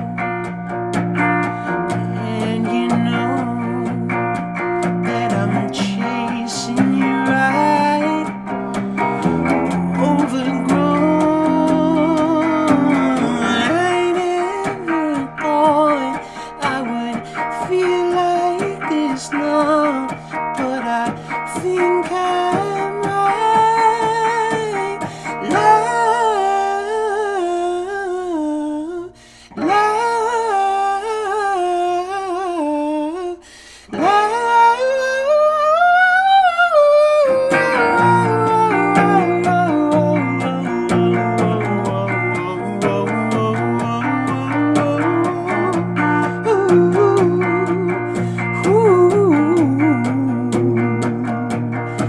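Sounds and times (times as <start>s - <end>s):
strummed guitar: 0.0s - 52.0s
man singing: 1.5s - 52.0s.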